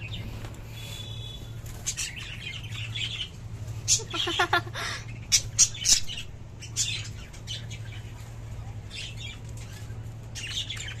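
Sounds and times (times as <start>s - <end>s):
budgerigars chirping and squawking: 0.0s - 11.0s
steady low hum: 0.0s - 11.0s.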